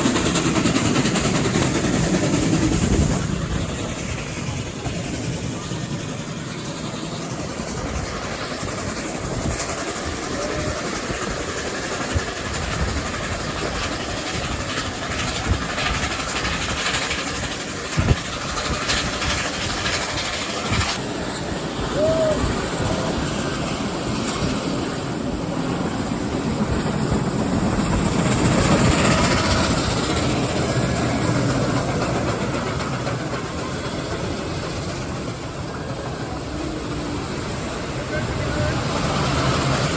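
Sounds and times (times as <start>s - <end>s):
train rumbling on rails: 0.0s - 39.9s
wheels clicking: 0.0s - 39.9s.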